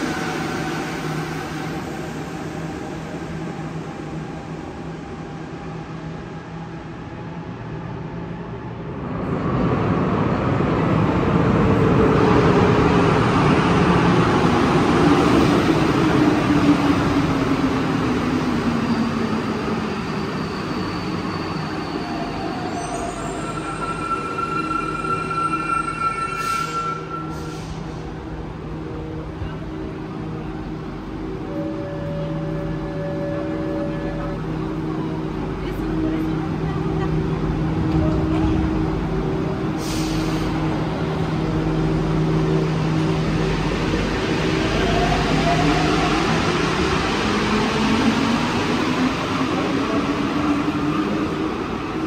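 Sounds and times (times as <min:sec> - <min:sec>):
metro train rushing past: 0:00.0 - 0:52.0.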